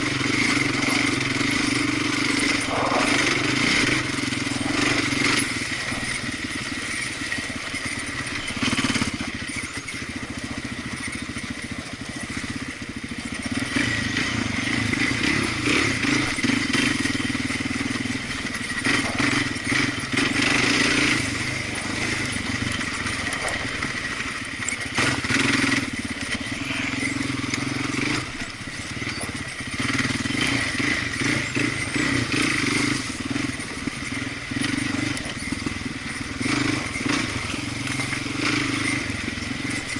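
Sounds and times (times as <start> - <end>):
off-road vehicle engine revving: 0.0 - 39.9
sharp rattles: 0.0 - 39.9.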